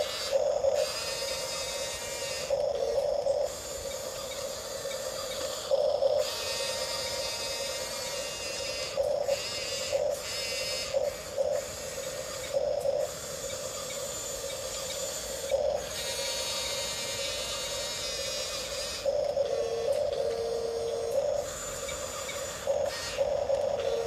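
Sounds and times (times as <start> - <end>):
toy bulldozer motors whining: 0.0 - 24.0.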